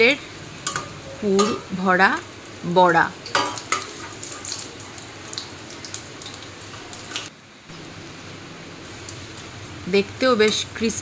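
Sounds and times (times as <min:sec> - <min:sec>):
fritters sizzling in hot oil: 0:00.0 - 0:11.0.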